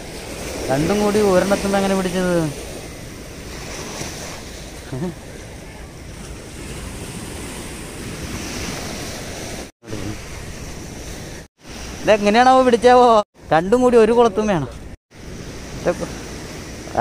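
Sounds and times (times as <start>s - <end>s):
sea surf washing on beach: 0.0s - 17.0s.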